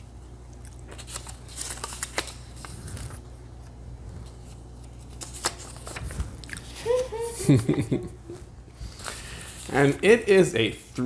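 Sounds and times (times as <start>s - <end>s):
paper rustling: 0.5s - 7.9s, 8.8s - 11.0s.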